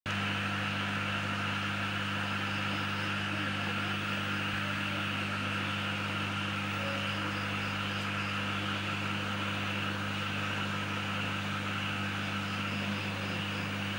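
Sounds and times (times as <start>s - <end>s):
electrical mains hum: 0.1s - 13.9s.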